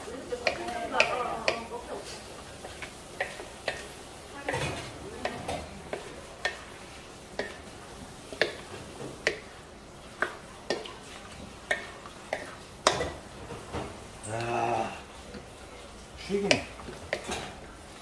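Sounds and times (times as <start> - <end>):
wooden spatula stirring in a wok: 0.0 - 18.0.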